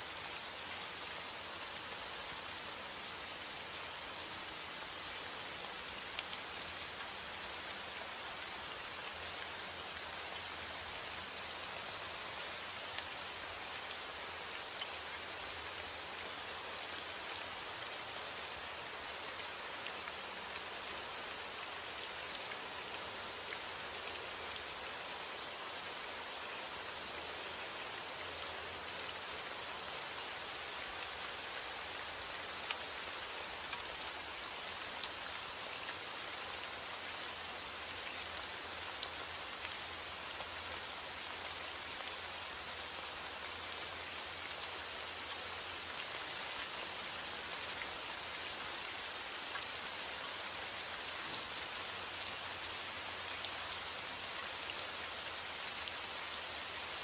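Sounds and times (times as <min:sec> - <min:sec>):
rain drops ticking on a surface: 0:00.0 - 0:57.0.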